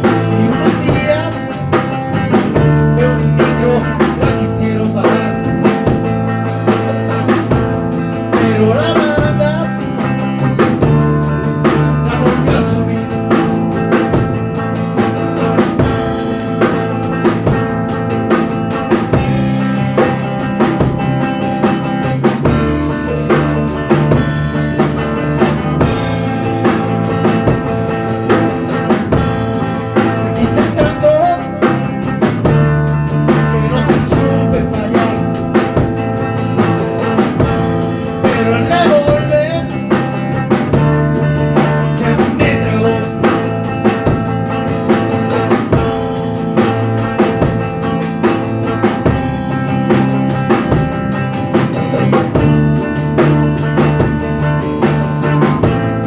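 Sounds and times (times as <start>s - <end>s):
band instrumental music: 0.0s - 56.0s
drum kit beat: 0.0s - 56.0s.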